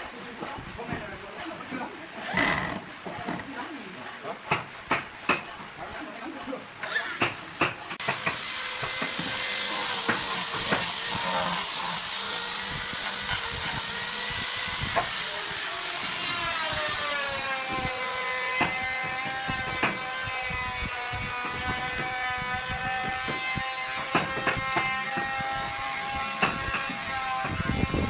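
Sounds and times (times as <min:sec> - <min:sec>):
power tool cutting wood: 0:00.5 - 0:04.2, 0:05.0 - 0:28.0.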